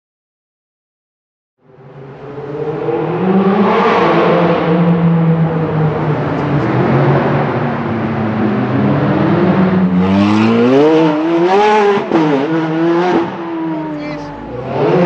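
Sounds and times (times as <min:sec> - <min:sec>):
car engine accelerating hard: 0:02.2 - 0:15.0.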